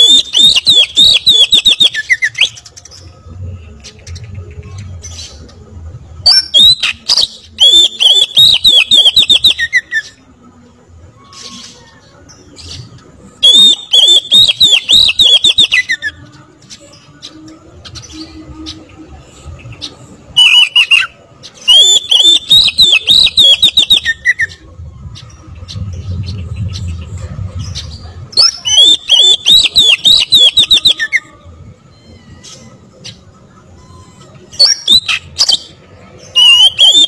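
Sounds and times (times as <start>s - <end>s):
bird singing fast repeated notes: 0.0s - 3.1s, 6.2s - 10.3s, 11.3s - 31.3s, 31.9s - 37.0s.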